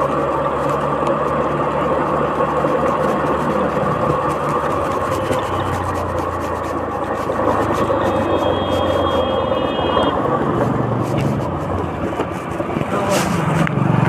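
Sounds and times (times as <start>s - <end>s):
motorcycle engine running: 0.0s - 14.0s
street noise: 0.0s - 14.0s
wind noise: 0.0s - 14.0s.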